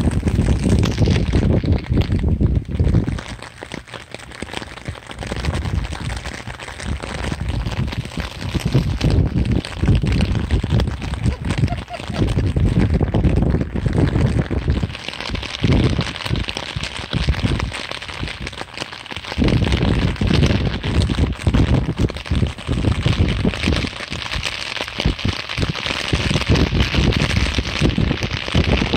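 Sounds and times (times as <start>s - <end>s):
steady rain hiss: 0.0s - 28.9s
wind buffeting microphone: 0.0s - 28.9s.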